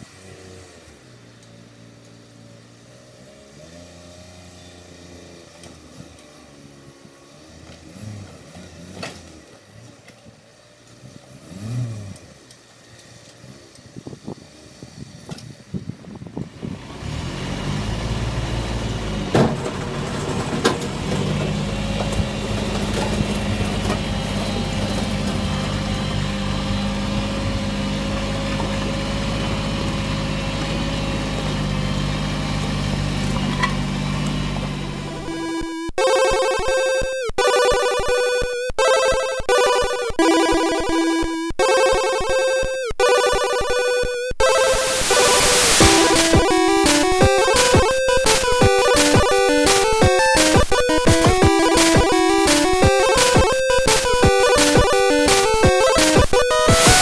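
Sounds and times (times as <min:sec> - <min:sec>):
tractor diesel engine running: 0:09.4 - 0:57.0.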